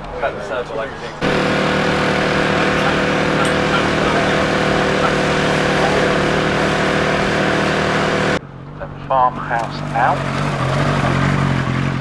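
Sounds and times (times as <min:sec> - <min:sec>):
racing car engine running: 0:01.0 - 0:12.0.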